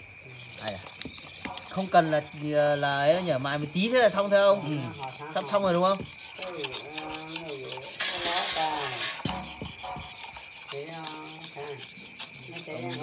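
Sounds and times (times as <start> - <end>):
knife scraping on whetstone: 0.2 - 13.0.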